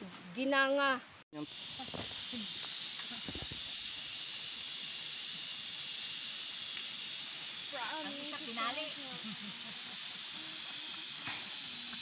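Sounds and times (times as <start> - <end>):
forest insects droning: 1.4 - 12.0
shrill insect tone: 1.4 - 12.0.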